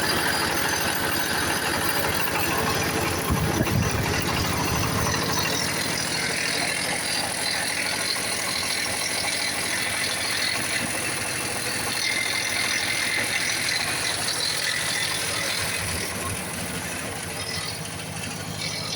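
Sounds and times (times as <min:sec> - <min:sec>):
engine running with rattle: 0:00.0 - 0:18.9.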